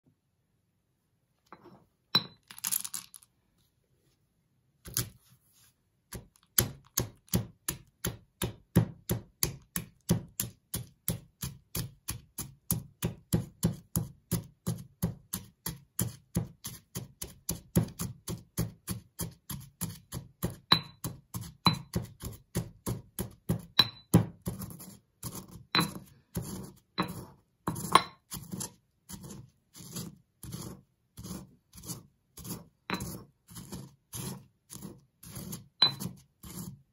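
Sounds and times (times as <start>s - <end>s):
stone pestle pounding in mortar: 6.1s - 36.8s.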